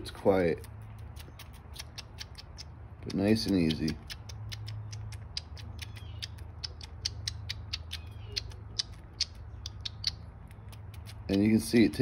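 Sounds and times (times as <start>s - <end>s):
squirrel mouth clicking: 0.3s - 11.7s.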